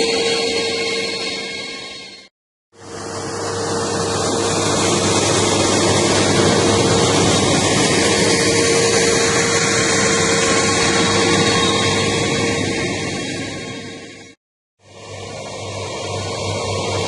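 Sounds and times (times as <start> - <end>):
steady tone: 0.0 - 17.0.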